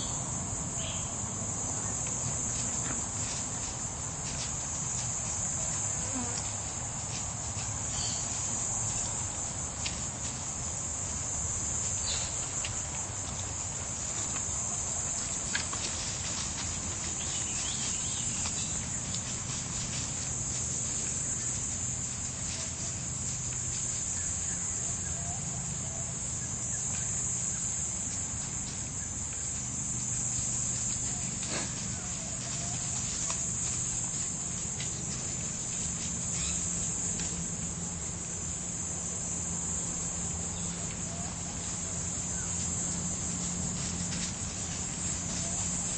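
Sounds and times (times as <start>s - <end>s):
insect chorus drone: 0.0s - 45.9s
dogs digging in dry leaves: 1.7s - 25.8s, 28.0s - 45.9s.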